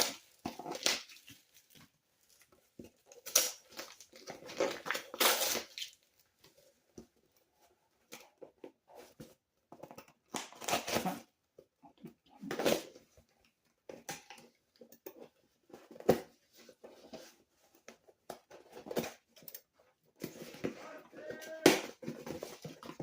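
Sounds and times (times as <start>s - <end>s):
cardboard parcel rustling: 0.0s - 11.4s, 15.2s - 23.0s.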